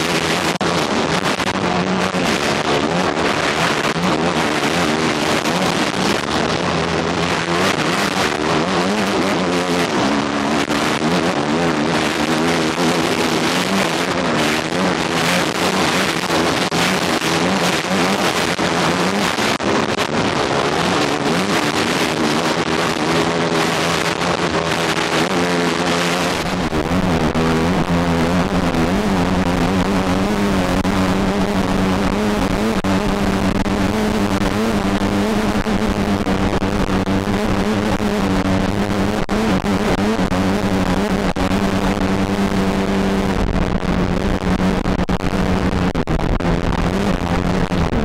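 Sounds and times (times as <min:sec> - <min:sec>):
constant rushing noise: 0:00.0 - 0:48.0
dirt bike engine revving: 0:00.0 - 0:48.0.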